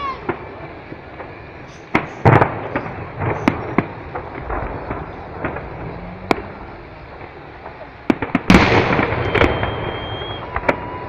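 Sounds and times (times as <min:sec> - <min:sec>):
fireworks bangs: 0:00.0 - 0:11.0
fireworks pops and crackling: 0:00.0 - 0:11.0.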